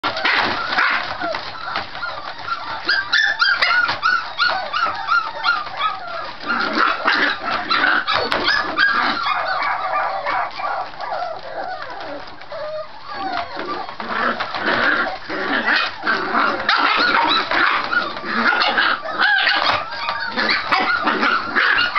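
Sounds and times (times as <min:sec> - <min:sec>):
puppies yipping and barking: 0:00.0 - 0:21.9.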